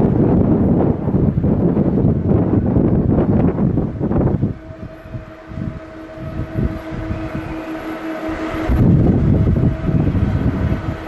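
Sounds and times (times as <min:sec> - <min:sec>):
droning tone: 0:00.0 - 0:11.0
jet engine rumble: 0:00.0 - 0:11.0.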